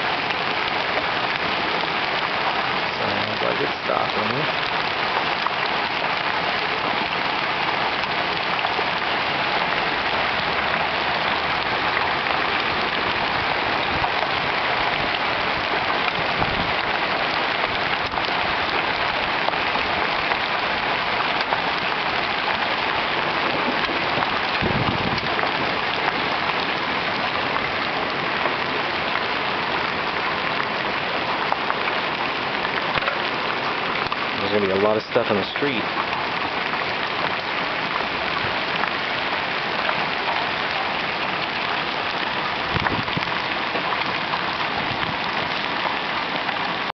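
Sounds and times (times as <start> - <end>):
hail and rain pelting down: 0.0 - 46.9.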